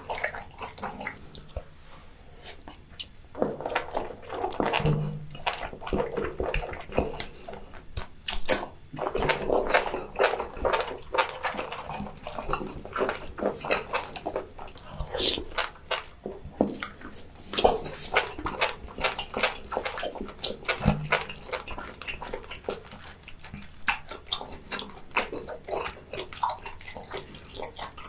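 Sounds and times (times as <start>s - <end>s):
wet chewing squelches: 0.0s - 28.0s.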